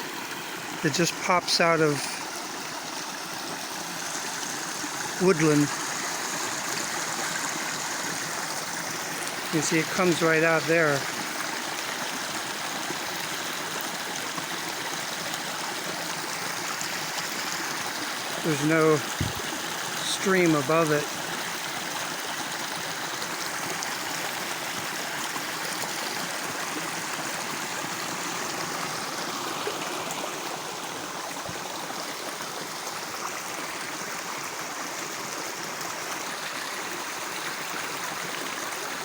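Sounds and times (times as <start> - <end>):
water trickling: 0.0 - 39.0.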